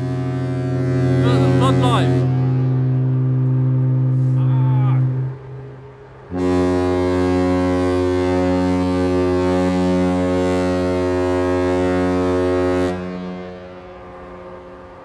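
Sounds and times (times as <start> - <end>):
higher-pitched horn: 0.0 - 14.1
deep ship's horn blast: 0.0 - 15.0.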